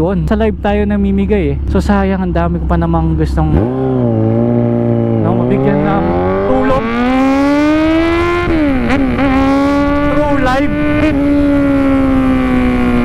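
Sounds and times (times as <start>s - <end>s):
wind and road rush: 0.0s - 13.0s
motorcycle engine accelerating: 1.6s - 13.0s.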